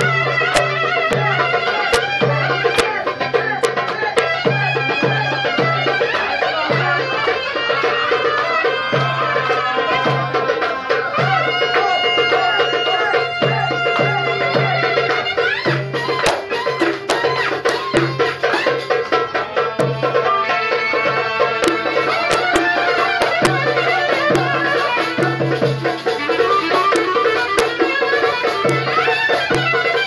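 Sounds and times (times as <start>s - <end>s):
folk music: 0.0s - 30.0s.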